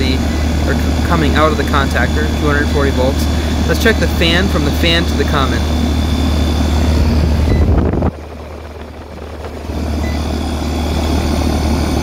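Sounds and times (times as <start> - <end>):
air conditioner condenser humming: 0.0 - 12.0
fan rush of air: 0.0 - 12.0.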